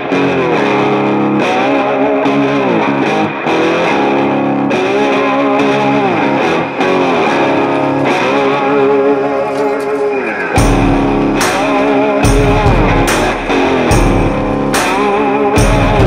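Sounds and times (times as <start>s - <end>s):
distorted electric guitar music: 0.0s - 16.0s.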